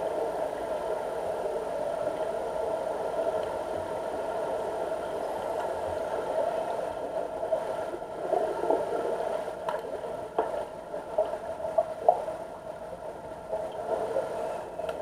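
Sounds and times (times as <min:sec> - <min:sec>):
mechanical hum underwater: 0:00.0 - 0:15.0.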